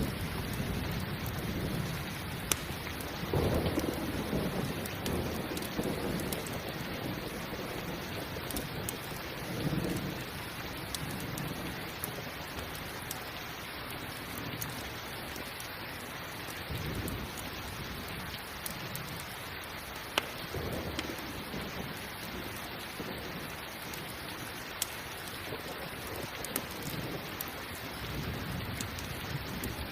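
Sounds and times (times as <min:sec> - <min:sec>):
thunder rumbling: 0:00.0 - 0:12.8, 0:16.6 - 0:19.2, 0:20.4 - 0:24.6, 0:25.2 - 0:29.9
campfire crackling and popping: 0:00.0 - 0:29.9
steady rain: 0:00.0 - 0:29.9.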